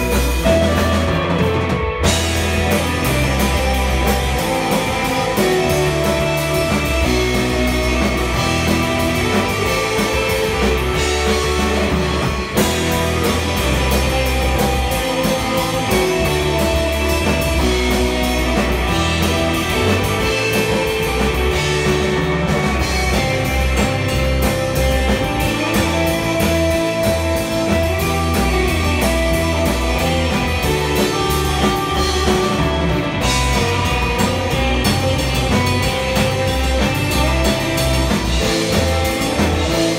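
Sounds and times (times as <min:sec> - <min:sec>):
lead electric guitar melody: 0:00.0 - 0:39.9
surf rock band playing: 0:00.0 - 0:39.9.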